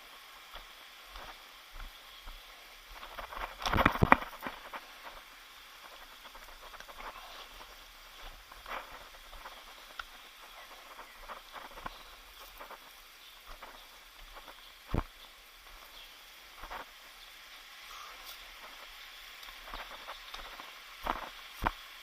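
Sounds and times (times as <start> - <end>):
footsteps on rocky leafy trail: 0.0 - 22.0.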